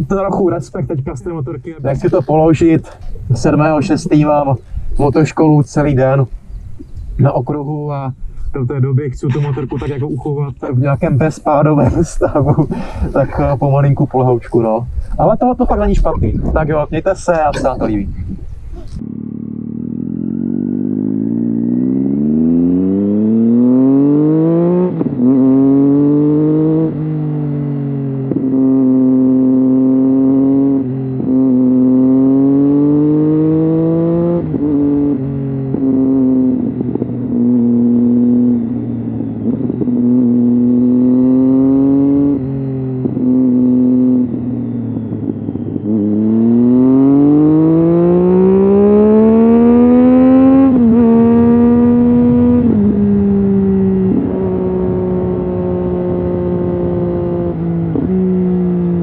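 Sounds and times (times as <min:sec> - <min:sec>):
motorcycle engine revving: 0:10.9 - 0:59.0.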